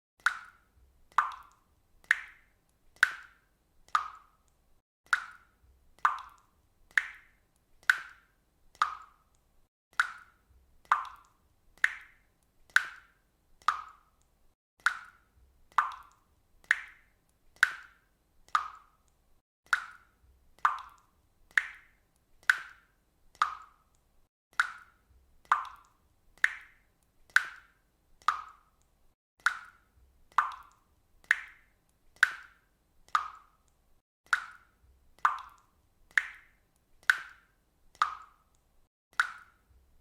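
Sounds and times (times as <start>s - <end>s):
water dripping: 0.2s - 40.0s.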